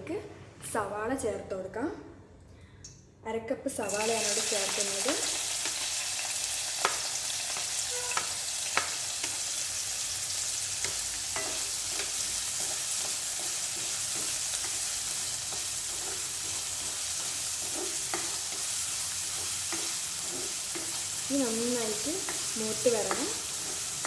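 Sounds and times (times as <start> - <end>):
onion sizzling in a frying pan: 3.8 - 24.0.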